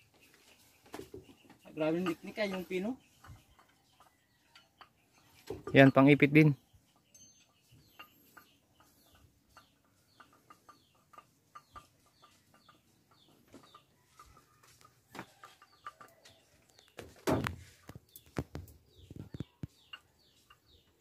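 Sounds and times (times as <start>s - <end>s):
chickens clucking: 0.0s - 21.0s
small birds chirping: 0.0s - 21.0s.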